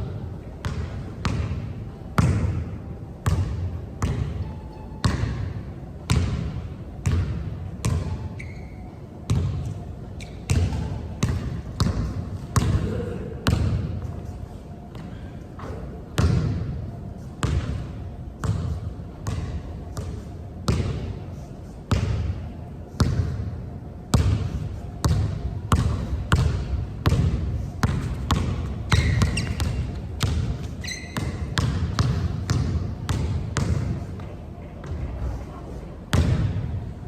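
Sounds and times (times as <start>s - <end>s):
basketball bouncing on a court: 0.6s - 13.9s, 16.2s - 16.8s, 17.4s - 21.1s, 21.9s - 22.4s, 23.0s - 23.4s, 24.1s - 35.1s, 36.1s - 36.8s.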